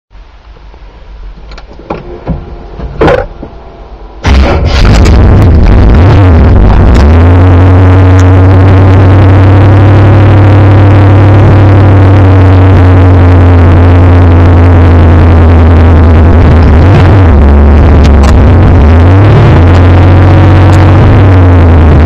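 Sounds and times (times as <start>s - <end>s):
truck engine running: 2.0s - 22.0s.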